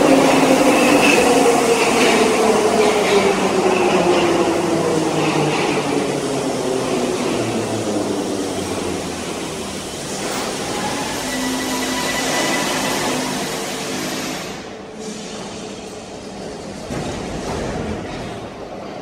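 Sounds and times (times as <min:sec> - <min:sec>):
metro train running: 0:00.0 - 0:19.0.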